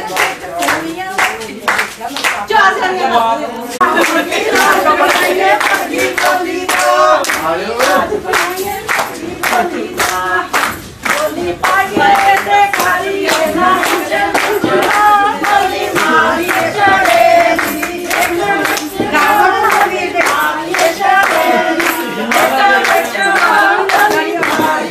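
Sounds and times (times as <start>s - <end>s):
hands clapping along: 0.0s - 2.5s, 3.8s - 24.9s
women singing: 0.0s - 24.9s.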